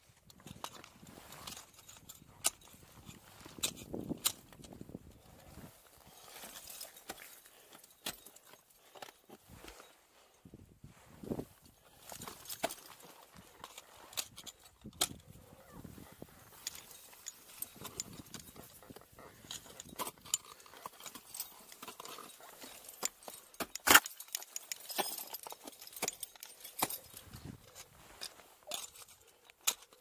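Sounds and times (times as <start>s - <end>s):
climbing hardware clinking: 0.2s - 10.4s, 11.2s - 30.0s.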